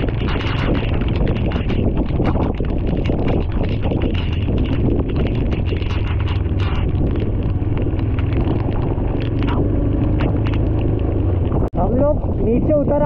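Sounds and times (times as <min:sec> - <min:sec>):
sharp ticks: 0:00.0 - 0:11.7
motorcycle engine hum: 0:00.0 - 0:13.0
wind noise: 0:00.0 - 0:13.0.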